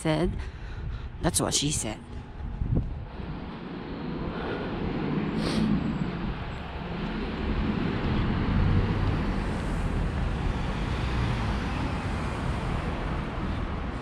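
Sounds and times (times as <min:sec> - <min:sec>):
passing cars rumbling: 0:02.2 - 0:14.0.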